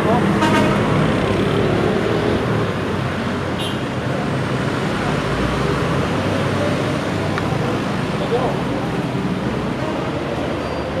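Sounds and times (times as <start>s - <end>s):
motorcycles and cars passing: 0.0s - 11.0s.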